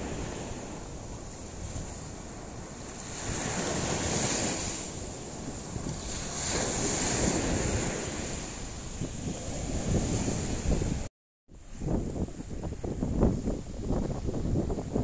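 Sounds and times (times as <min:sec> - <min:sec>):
surf waves breaking on shore: 0:00.0 - 0:15.0
wind buffeting microphone: 0:00.0 - 0:15.0.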